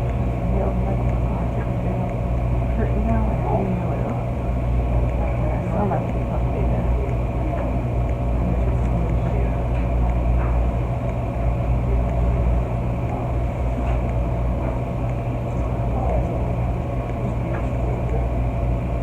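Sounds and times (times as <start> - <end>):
laundromat machines humming: 0.0 - 19.0.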